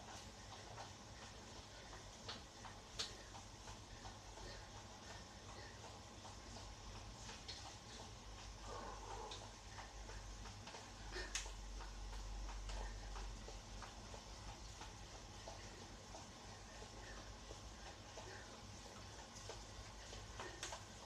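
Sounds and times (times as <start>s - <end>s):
low steady hum: 0.0s - 21.0s
spin bike ticks and clicks: 0.0s - 21.0s.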